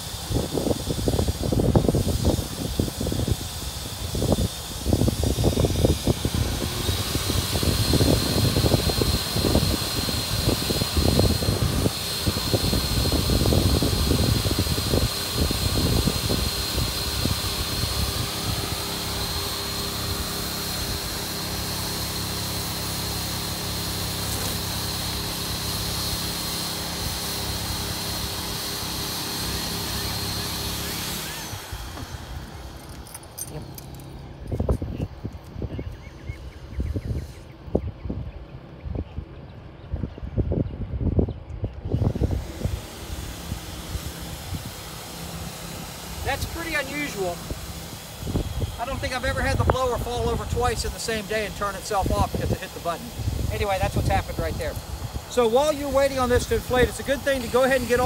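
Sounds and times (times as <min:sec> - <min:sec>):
electric air blower whining: 0:00.0 - 0:58.0.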